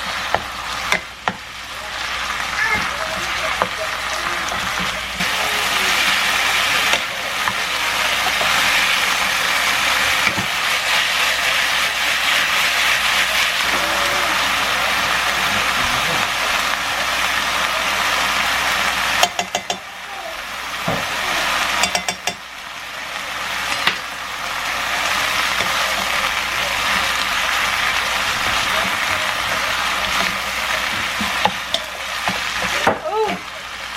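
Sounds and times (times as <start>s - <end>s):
food sizzling in a frying pan: 0.0s - 33.9s.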